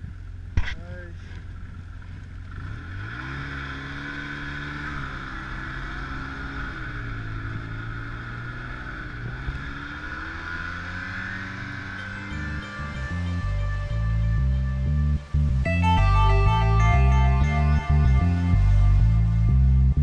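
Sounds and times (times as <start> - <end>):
snowmobile engine running: 0.6 - 20.0.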